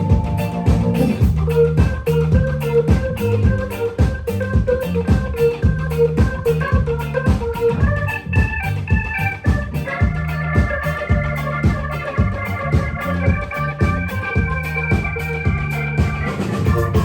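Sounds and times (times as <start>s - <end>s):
bass line: 0.0s - 17.0s
drum beat: 0.0s - 17.0s
electric organ chords: 0.0s - 17.0s.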